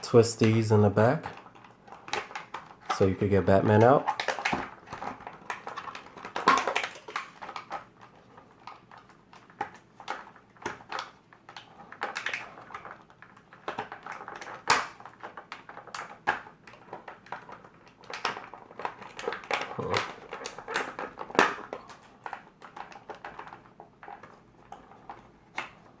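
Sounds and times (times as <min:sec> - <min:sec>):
plastic toy packaging crackling: 0:00.0 - 0:26.0.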